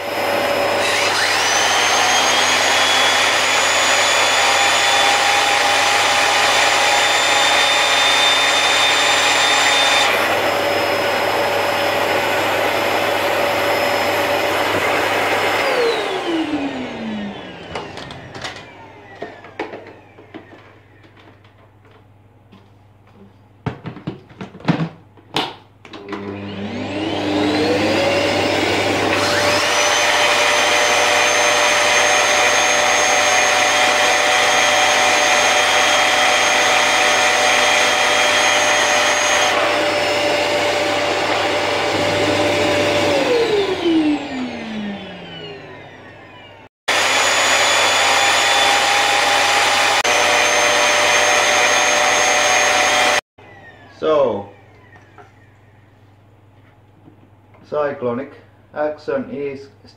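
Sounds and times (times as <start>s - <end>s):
vacuum cleaner running: 0.0s - 22.0s, 25.9s - 55.8s.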